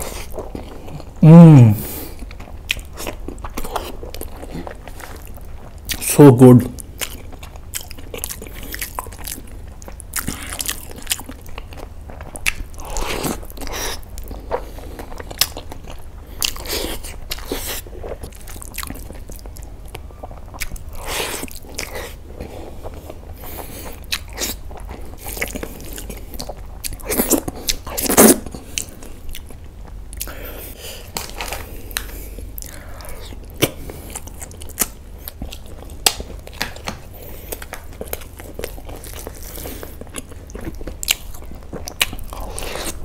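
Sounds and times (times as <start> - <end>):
person chewing food: 0.0 - 6.1, 6.8 - 43.0.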